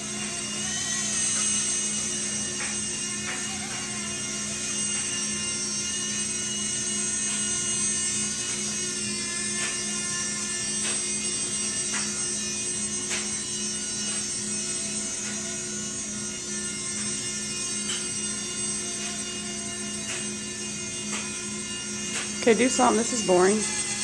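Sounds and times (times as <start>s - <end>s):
rc helicopter motor whine: 0.0s - 24.0s.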